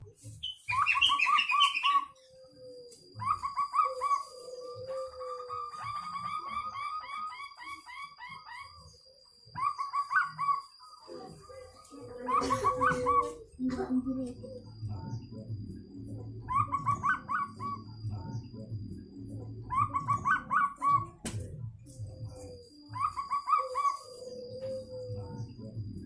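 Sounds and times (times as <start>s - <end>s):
dove cooing: 0.7s - 18.7s, 19.4s - 21.2s, 21.9s - 26.0s.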